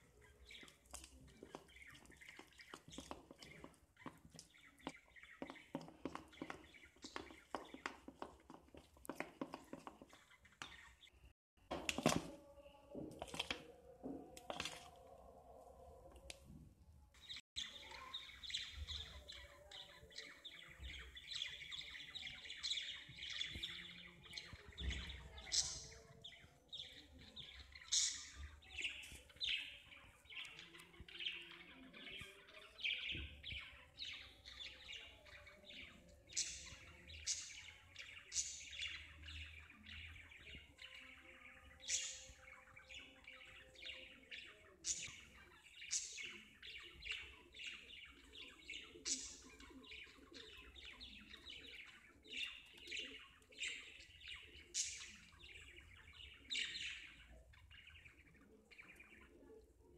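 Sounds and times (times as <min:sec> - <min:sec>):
birds chirping: 0:00.0 - 0:16.6, 0:17.2 - 0:59.9.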